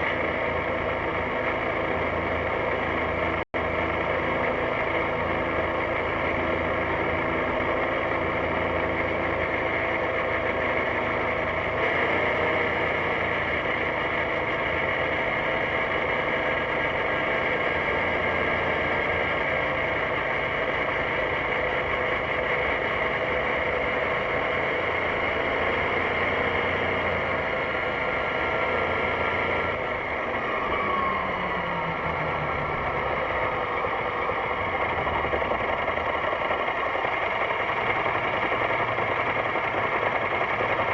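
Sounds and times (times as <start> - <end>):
scooter engine running: 0.0 - 40.9.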